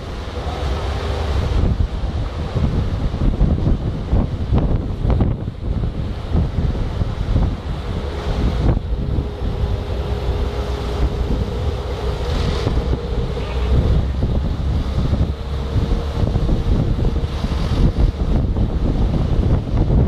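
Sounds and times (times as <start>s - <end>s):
boat engine humming: 0.0s - 20.0s
wind rumbling on microphone: 0.0s - 20.0s.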